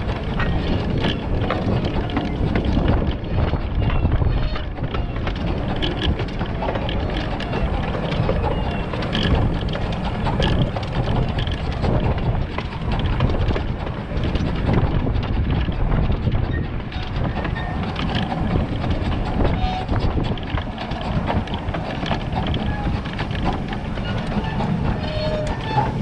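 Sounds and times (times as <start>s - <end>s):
steam locomotive running rumble: 0.0s - 26.0s
wind buffeting microphone: 0.0s - 26.0s
track clicks: 4.8s - 26.0s.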